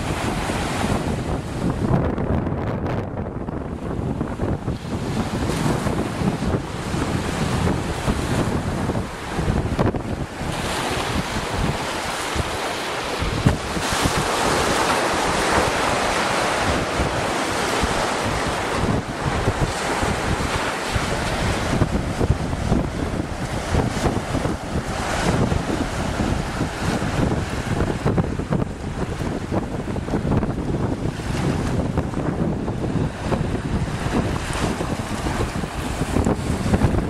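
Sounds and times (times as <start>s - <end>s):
ocean waves rushing: 0.0s - 37.0s
wind buffeting microphone: 0.0s - 37.0s.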